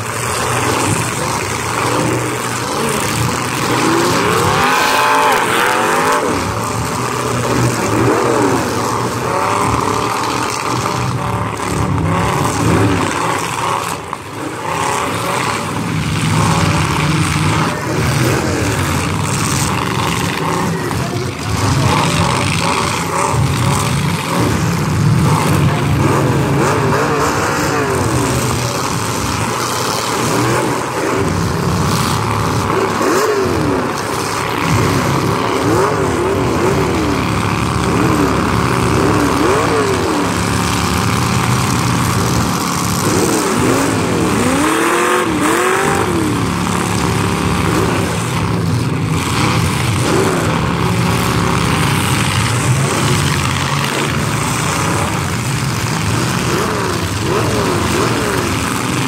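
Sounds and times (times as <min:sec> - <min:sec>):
car engines droning: 0:00.0 - 0:59.0
engines revving: 0:00.0 - 0:59.0.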